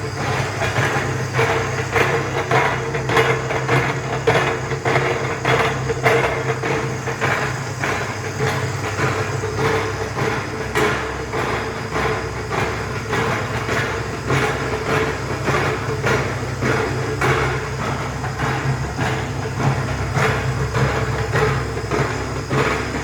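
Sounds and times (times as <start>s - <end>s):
machine low hum: 0.0s - 23.0s.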